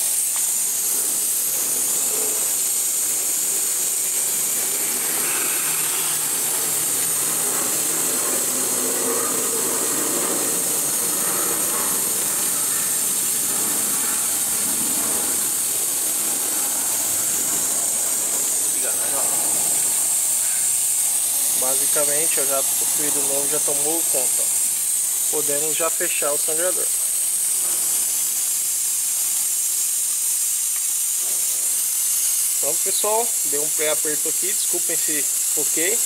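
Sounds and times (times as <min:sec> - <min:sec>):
vacuum bleeder hissing: 0:00.0 - 0:36.0.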